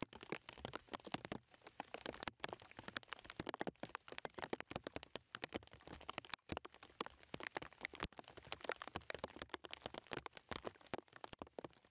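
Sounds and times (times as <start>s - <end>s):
raindrops tapping on a surface: 0.0s - 11.9s.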